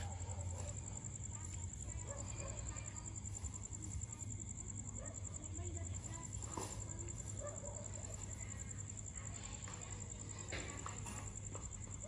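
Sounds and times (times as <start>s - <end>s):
crickets trilling: 0.0s - 12.0s
faint distant sounds: 0.0s - 12.0s.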